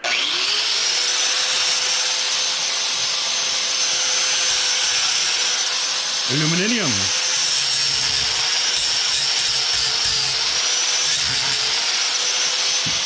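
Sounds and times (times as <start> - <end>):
grinder cutting metal: 0.0 - 13.0.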